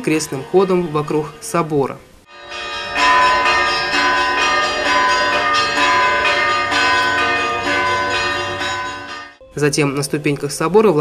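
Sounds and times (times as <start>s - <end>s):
church bells ringing: 0.0s - 1.6s, 2.3s - 10.4s.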